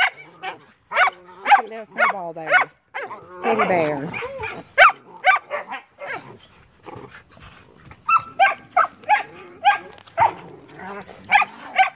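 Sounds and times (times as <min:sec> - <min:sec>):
puppies yapping: 0:00.0 - 0:11.9.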